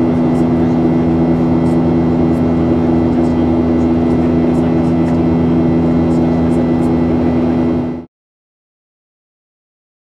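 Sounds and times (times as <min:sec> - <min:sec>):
airplane cabin engine drone: 0:00.0 - 0:08.1.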